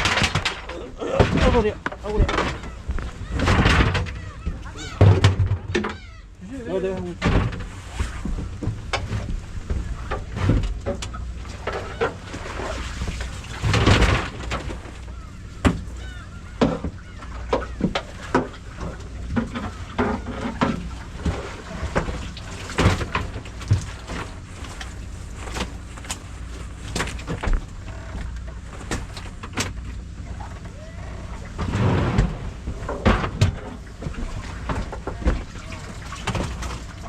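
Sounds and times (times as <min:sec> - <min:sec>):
knocks and clatter on deck: 0:00.0 - 0:06.1, 0:07.1 - 0:37.0
boat engine hum: 0:00.0 - 0:37.0.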